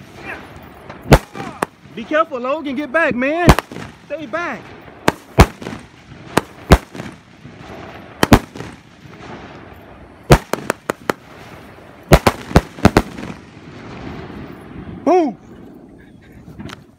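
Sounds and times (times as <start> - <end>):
fireworks bangs: 0.0 - 15.1.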